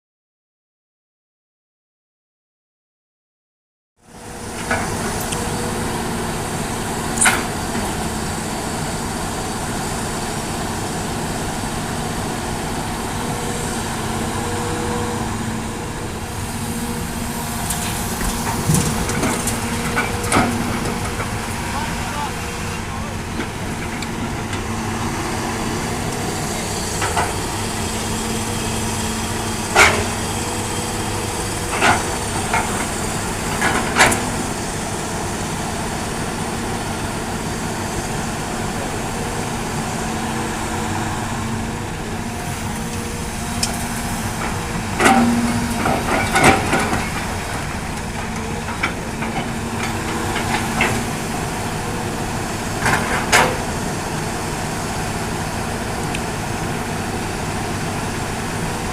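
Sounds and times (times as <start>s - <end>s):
excavator diesel engine running: 4.0s - 58.9s.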